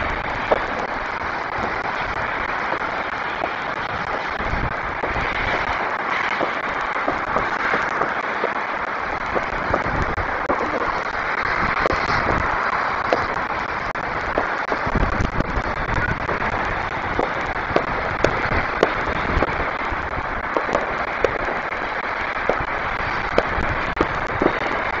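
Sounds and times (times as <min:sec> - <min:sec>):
distant fireworks popping: 0:00.0 - 0:25.0
steady outdoor hiss: 0:00.0 - 0:25.0.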